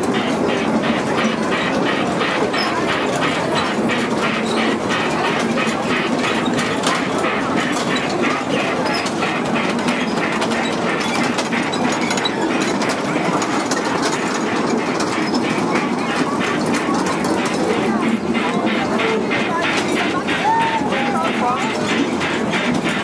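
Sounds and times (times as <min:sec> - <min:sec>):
crowd chatter: 0:00.0 - 0:23.0
train wheels clicking over rail joints: 0:00.0 - 0:23.0.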